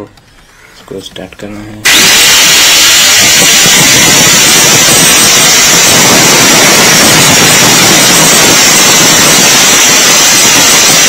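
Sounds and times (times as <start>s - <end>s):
angle grinder cutting metal rod: 1.9s - 11.0s.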